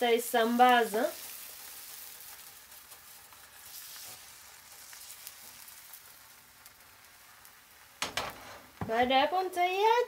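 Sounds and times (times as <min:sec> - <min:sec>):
batter sizzling in frying pan: 0:00.0 - 0:10.0.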